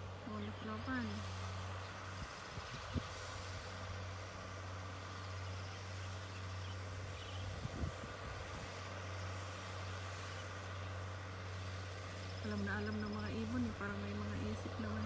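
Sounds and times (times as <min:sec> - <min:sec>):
distant tractor engine drone: 0:00.0 - 0:15.0.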